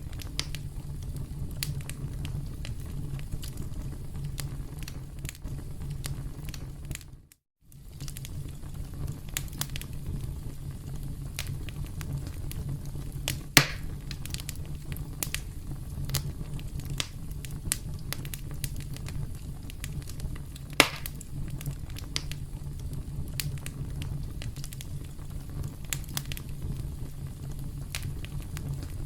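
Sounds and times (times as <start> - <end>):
campfire crackling: 0.0 - 29.0
loud fire pops: 0.0 - 29.0.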